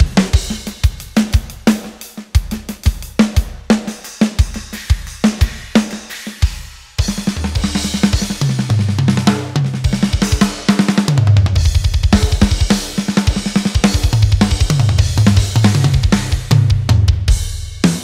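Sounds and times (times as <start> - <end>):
drum kit playing groove: 0.0 - 18.0.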